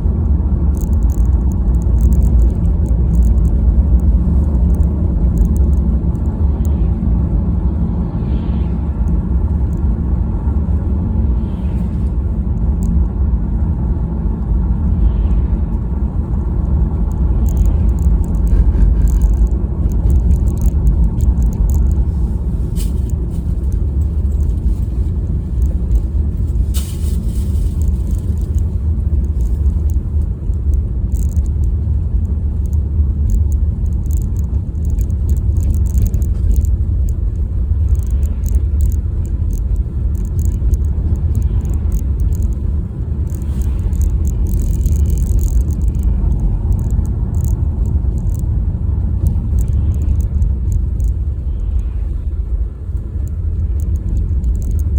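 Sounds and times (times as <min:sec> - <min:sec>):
car engine and road noise: 0:00.0 - 0:54.9
faint ticks: 0:00.6 - 0:06.9, 0:17.0 - 0:54.9.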